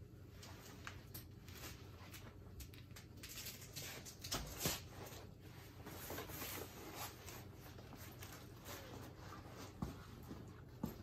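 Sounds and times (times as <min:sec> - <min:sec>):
harness fabric rustling and creaking: 0:00.0 - 0:11.0.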